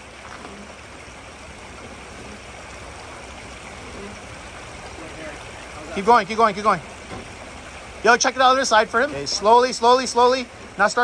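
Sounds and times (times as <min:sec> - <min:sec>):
creek water running over rocks: 0:00.0 - 0:11.0
truck engine idling: 0:00.0 - 0:11.0.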